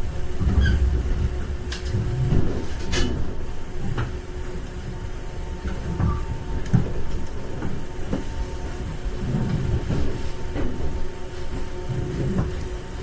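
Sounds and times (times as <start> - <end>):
train car low rumble: 0.0 - 13.0.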